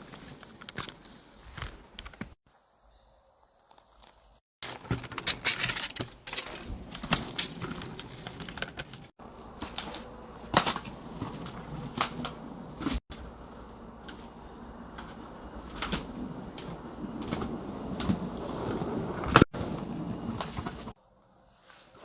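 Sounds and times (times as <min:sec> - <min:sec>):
skate wheels rolling on pavement: 0:00.0 - 0:21.0.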